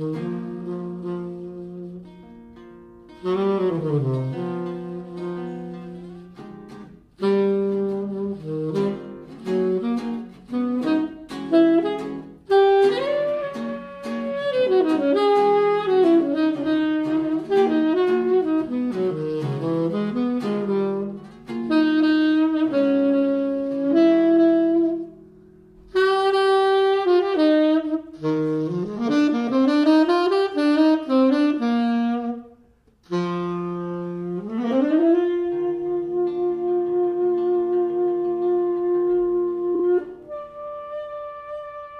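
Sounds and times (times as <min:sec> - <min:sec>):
jazz guitar accompaniment: 0:00.0 - 0:41.9
tenor saxophone jazz melody: 0:00.0 - 0:41.9.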